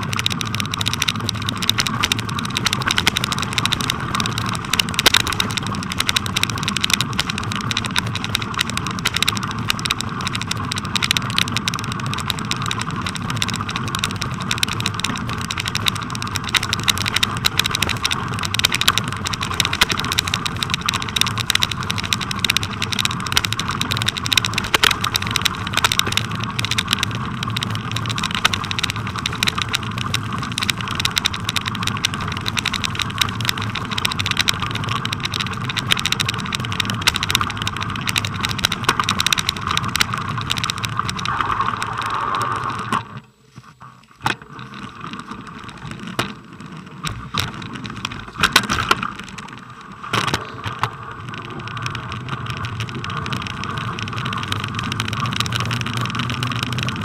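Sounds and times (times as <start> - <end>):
camera clicking and rattling: 0.0 - 43.2, 44.2 - 57.0
tyre and wind noise: 0.0 - 57.0.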